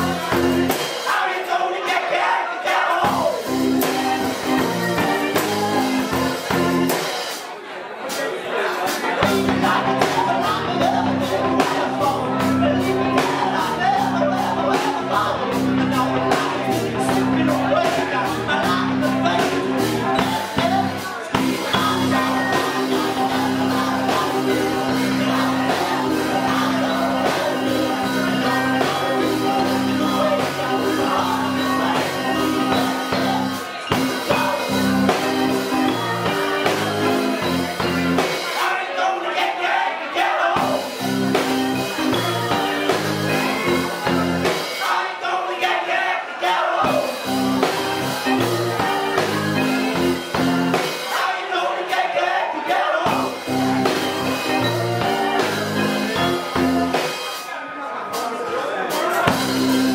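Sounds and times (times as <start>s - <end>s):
person singing: 0.0s - 7.2s, 9.1s - 57.6s
live band playing: 0.0s - 59.9s.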